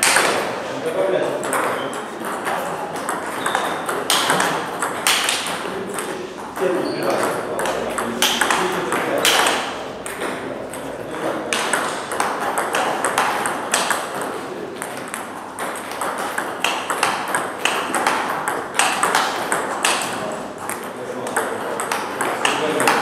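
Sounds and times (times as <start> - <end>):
ball bouncing on table: 0.0 - 0.6, 1.4 - 23.0
table tennis ball clicking off bats: 1.4 - 10.9, 11.5 - 23.0
distant ball clicks: 1.4 - 23.0.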